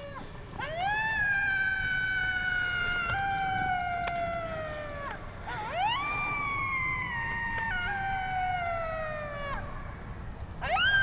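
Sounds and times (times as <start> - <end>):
coyote howling: 0.0 - 11.0.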